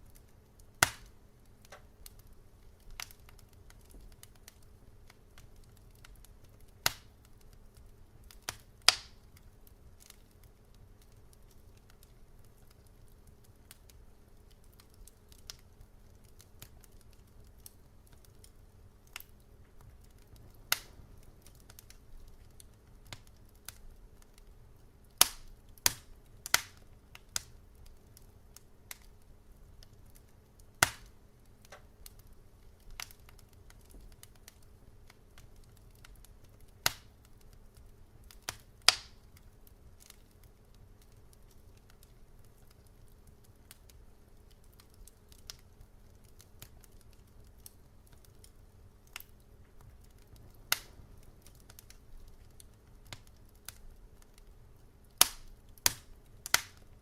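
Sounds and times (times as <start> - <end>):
faint low hum: 0.0 - 57.0
wood fire crackling: 0.0 - 57.0.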